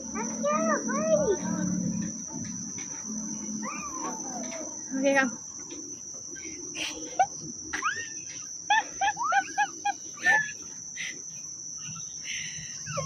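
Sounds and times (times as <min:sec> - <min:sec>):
insects high-pitched drone: 0:00.0 - 0:13.0.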